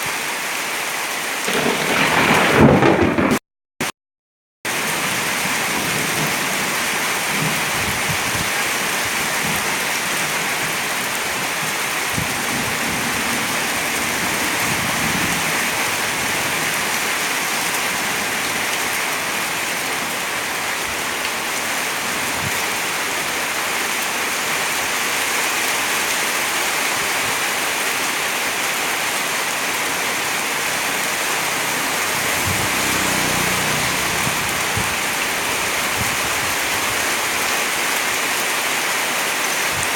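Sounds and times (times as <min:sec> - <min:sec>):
heavy rain pouring: 0:00.0 - 0:03.4, 0:04.7 - 0:39.9.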